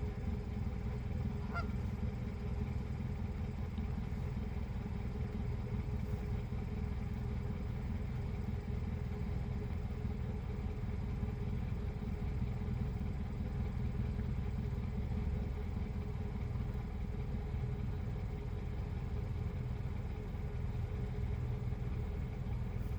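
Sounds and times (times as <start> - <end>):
low engine rumble: 0.0 - 22.9.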